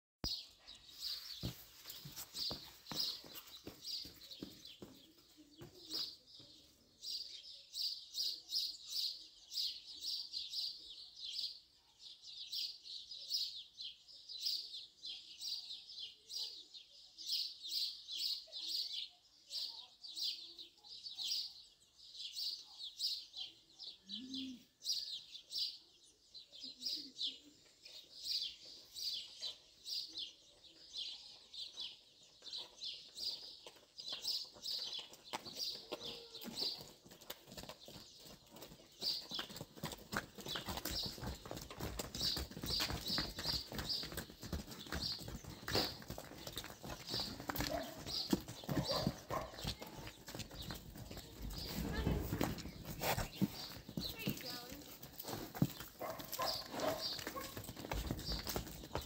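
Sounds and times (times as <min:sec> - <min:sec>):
small birds chirping: 0:00.2 - 0:59.0.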